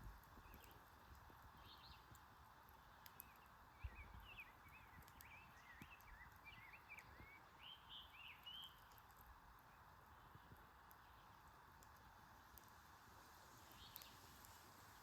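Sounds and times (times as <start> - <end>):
faint bird song chirps: 0.2 - 12.2, 13.2 - 15.0.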